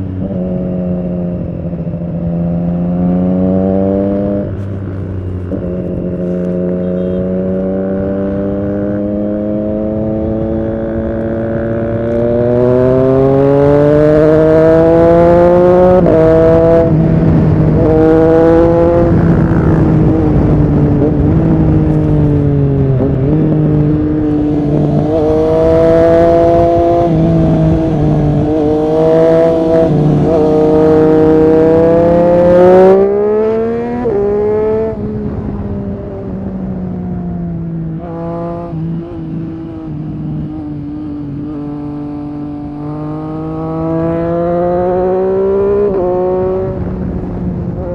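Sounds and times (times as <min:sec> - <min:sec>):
motorcycle engine revving through gears: 0:00.0 - 0:47.9.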